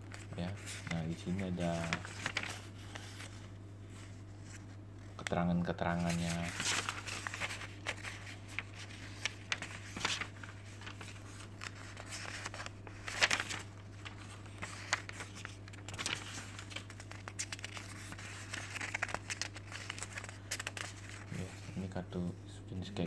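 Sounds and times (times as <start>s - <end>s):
paper rustling: 0.0s - 21.8s.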